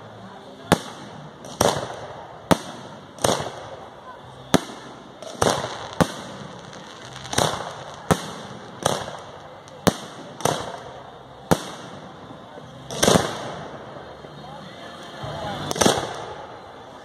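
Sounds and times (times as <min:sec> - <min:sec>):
fireworks bangs with echoing tail: 0:00.5 - 0:14.1, 0:15.5 - 0:16.9.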